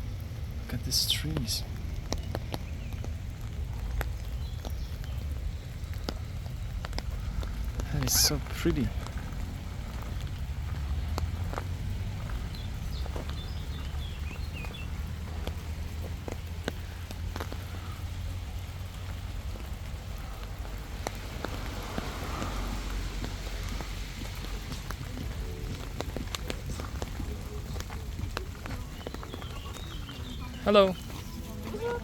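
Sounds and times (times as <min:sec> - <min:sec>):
light crackles and clicks: 0:00.1 - 0:32.0
footsteps on path: 0:01.3 - 0:32.0
wind rumble on microphone: 0:01.6 - 0:32.0.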